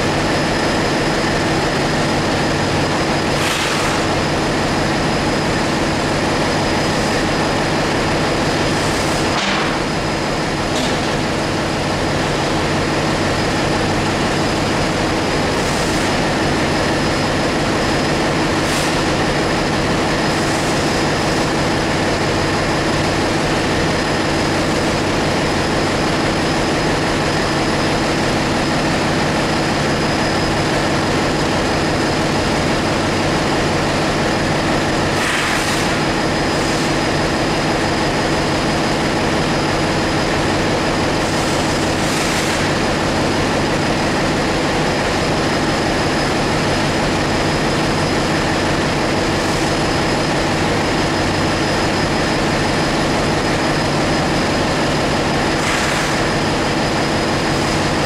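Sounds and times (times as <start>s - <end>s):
engine-room machinery drone: 0.0s - 58.0s.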